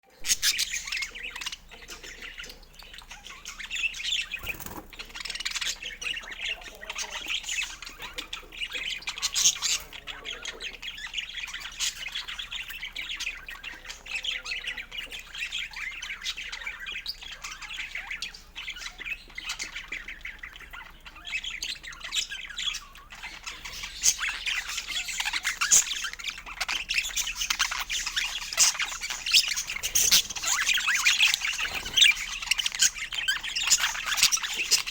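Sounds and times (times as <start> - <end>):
budgerigars chattering: 0.1 - 34.9.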